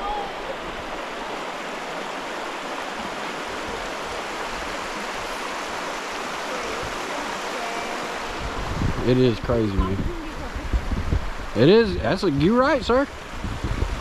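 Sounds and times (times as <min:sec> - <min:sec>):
rushing river water: 0:00.0 - 0:14.0.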